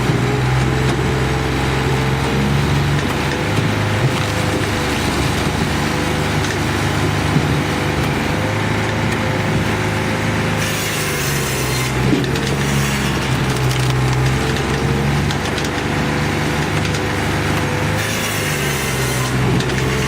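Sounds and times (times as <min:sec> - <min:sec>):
hydraulic machine humming: 0:00.0 - 0:20.0.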